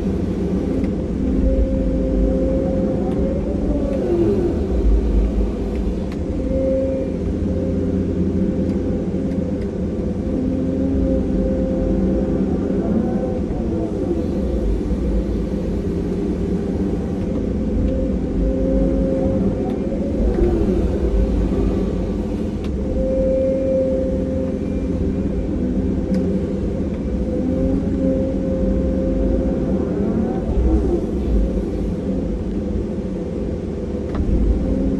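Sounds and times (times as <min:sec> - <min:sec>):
excavator diesel engine rumble: 0:00.0 - 0:34.9
steady humming tones: 0:00.0 - 0:34.9
steady whine: 0:00.0 - 0:34.9.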